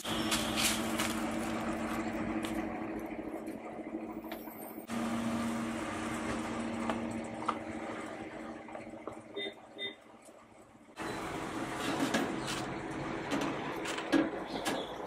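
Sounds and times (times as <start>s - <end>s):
machine hum with low tones: 0.0s - 15.0s.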